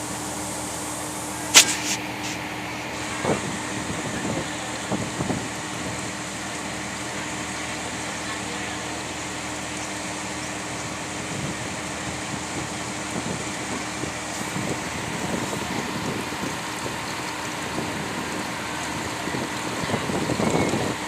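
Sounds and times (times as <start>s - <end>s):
boat engine running: 0.0s - 21.0s
water rushing: 0.0s - 21.0s.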